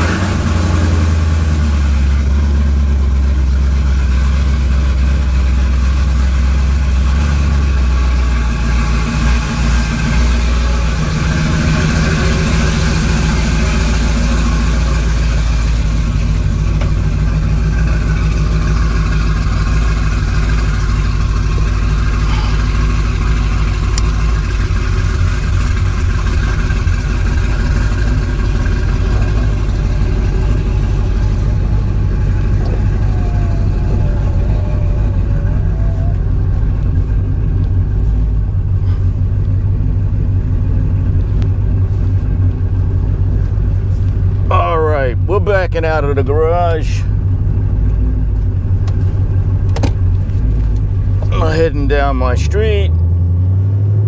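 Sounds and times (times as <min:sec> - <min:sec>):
engine idling: 0:00.0 - 0:53.5.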